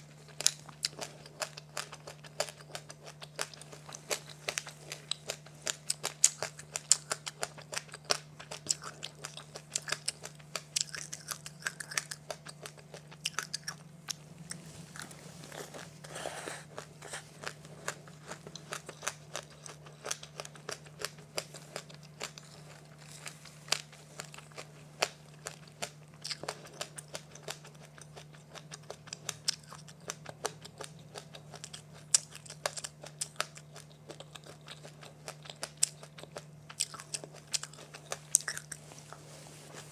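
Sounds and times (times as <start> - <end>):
crunching crisp snack: 0.2 - 39.9.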